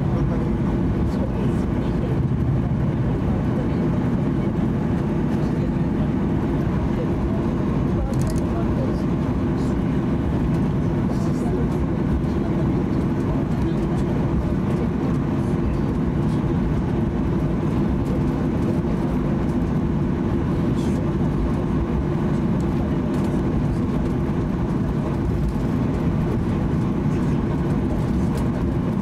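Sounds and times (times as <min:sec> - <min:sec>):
aircraft cabin engine rumble: 0:00.0 - 0:29.0.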